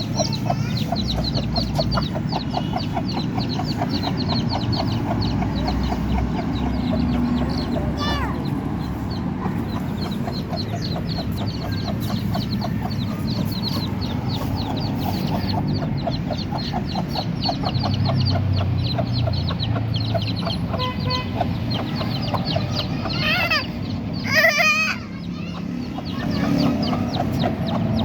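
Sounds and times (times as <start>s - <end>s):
chicks peeping: 0.0s - 28.0s
hen clucking: 0.0s - 28.0s.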